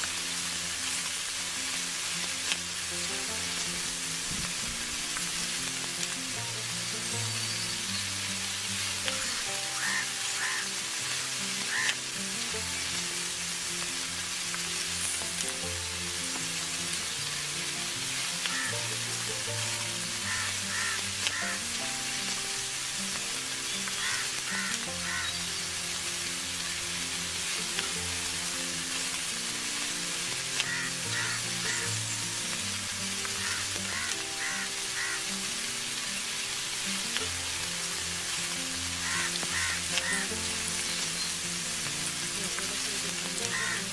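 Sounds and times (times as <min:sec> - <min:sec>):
oil sizzling: 0:00.0 - 0:43.9
soft background music: 0:00.0 - 0:43.9.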